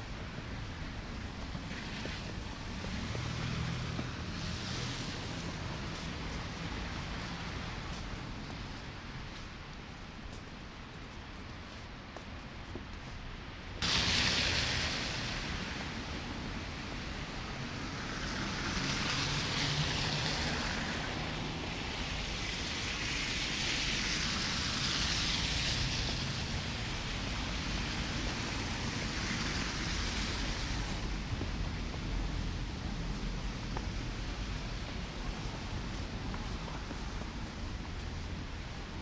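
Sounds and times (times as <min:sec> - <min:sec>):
slushy traffic: 0:00.0 - 0:39.0.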